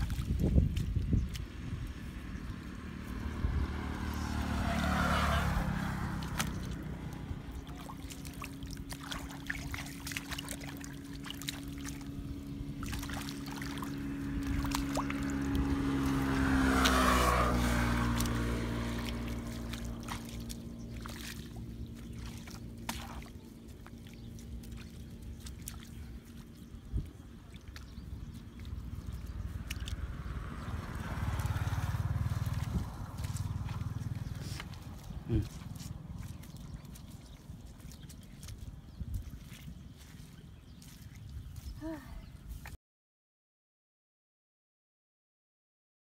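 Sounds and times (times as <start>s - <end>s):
water splashes and drips: 0.0s - 42.8s
vehicle engine passing by: 0.1s - 42.3s.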